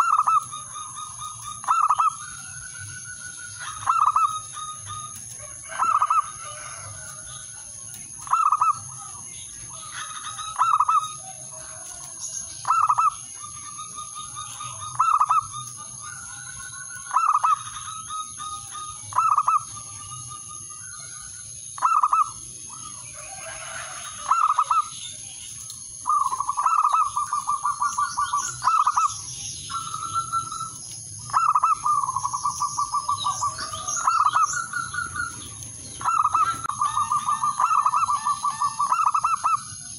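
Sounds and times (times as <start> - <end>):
dove cooing: 0.0 - 25.0, 26.0 - 39.9.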